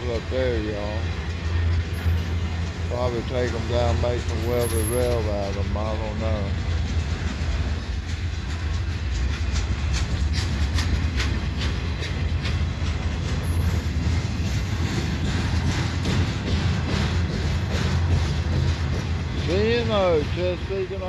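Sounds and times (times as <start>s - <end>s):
steel wheels rumbling on rail: 0.0s - 21.0s
wheels clicking over rail joints: 0.0s - 21.0s.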